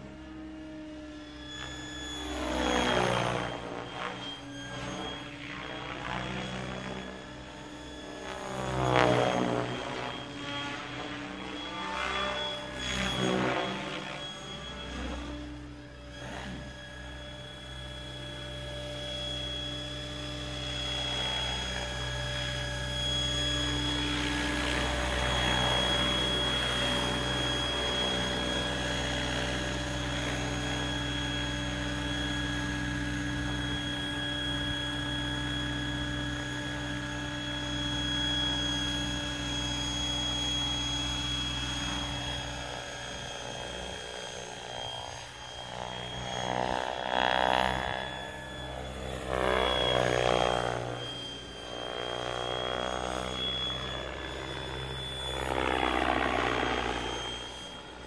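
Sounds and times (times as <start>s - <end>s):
motor and gears whining: 0.0s - 58.0s
rotor blades rushing: 0.0s - 58.0s.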